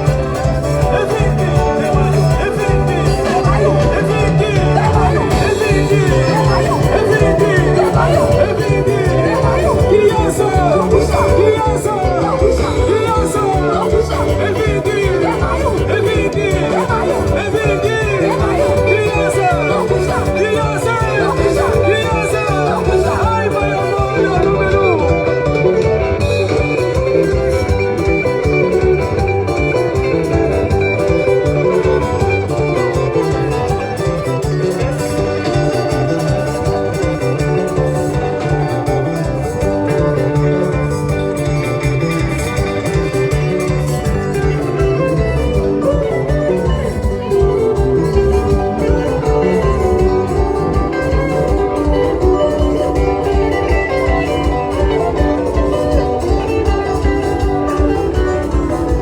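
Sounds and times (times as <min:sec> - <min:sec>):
dance band playing upbeat music: 0:00.0 - 0:59.0
plucked guitar line: 0:00.0 - 0:59.0.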